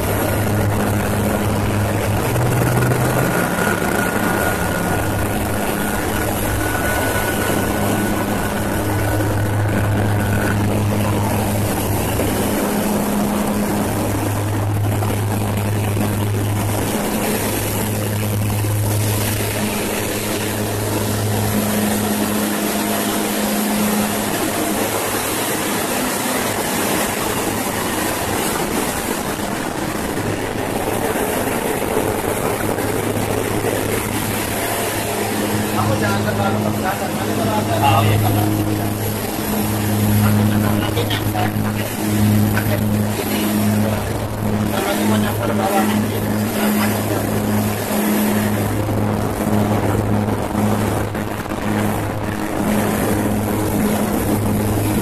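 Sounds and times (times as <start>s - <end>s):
propeller airplane cabin drone: 0.0s - 55.0s.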